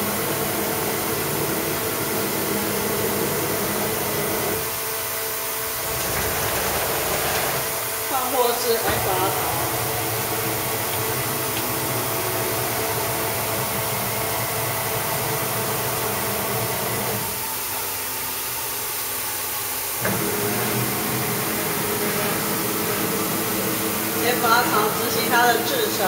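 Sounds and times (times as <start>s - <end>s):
machine humming with steady tones: 0.0s - 26.0s.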